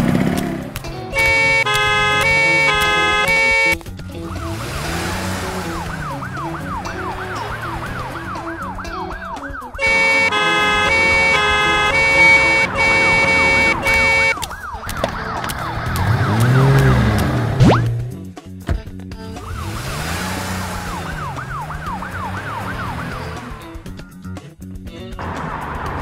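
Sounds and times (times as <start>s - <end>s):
music: 0.0s - 26.0s
ambulance siren wailing: 1.2s - 17.8s, 19.3s - 23.8s.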